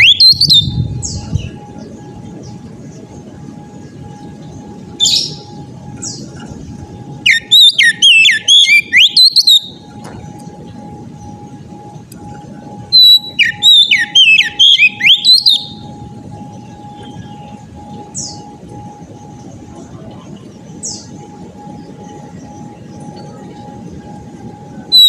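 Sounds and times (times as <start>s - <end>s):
bird whistled song: 0.0s - 3.0s, 3.8s - 11.8s, 12.8s - 19.6s, 20.4s - 23.8s, 24.6s - 25.0s.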